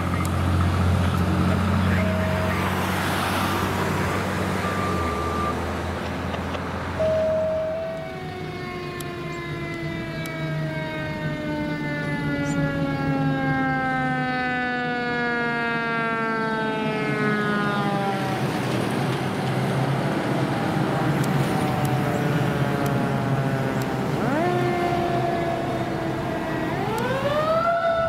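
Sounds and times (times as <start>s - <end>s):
fire truck siren wailing: 0.0s - 5.9s, 6.9s - 28.0s
engine rumble: 0.0s - 28.0s
road noise: 0.0s - 28.0s.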